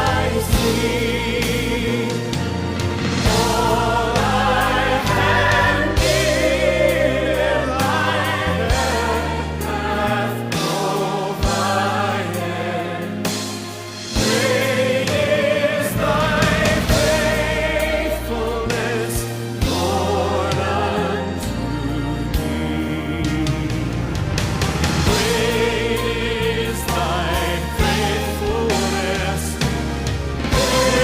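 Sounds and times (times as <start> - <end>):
choir singing slow song: 0.0 - 31.0.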